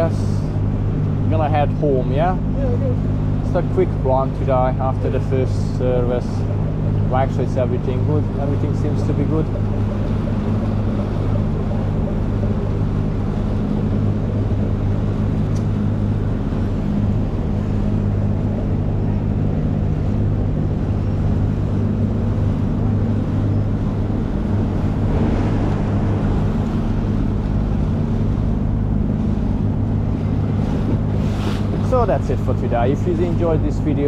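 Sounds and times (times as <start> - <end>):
outboard motor running: 0.0 - 34.0
water rushing along hull: 0.0 - 34.0.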